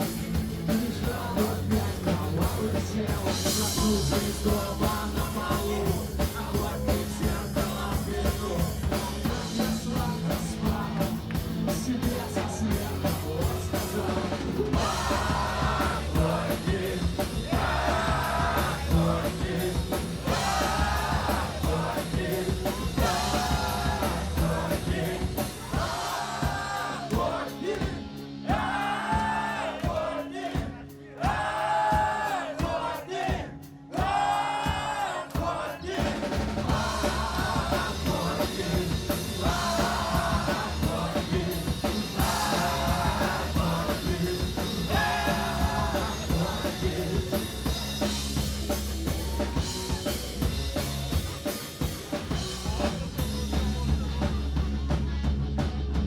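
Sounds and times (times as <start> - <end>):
drum kit: 0.0 - 56.0
live rock band playing: 0.0 - 56.0.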